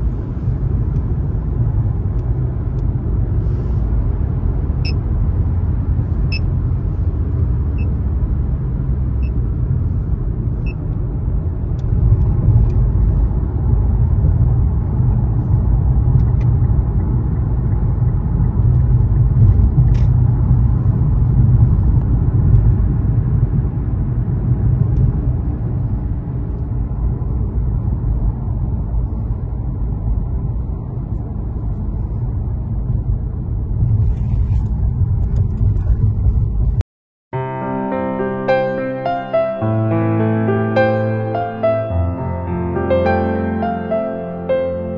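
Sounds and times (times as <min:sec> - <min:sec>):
car interior road noise: 0:00.0 - 0:36.8.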